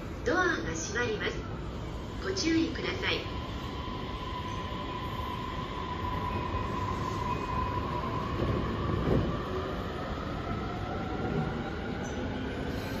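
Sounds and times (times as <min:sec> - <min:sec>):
rumble of train wheels: 0:00.0 - 0:13.0.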